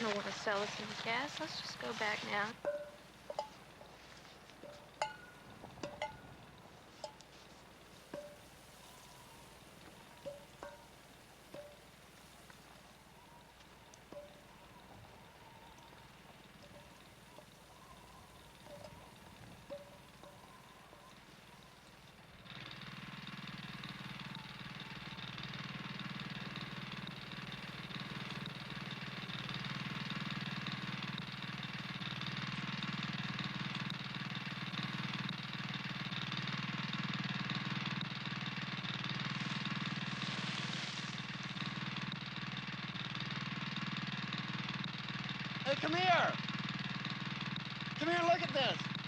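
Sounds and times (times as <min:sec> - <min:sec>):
van engine running: 0:00.0 - 0:49.0.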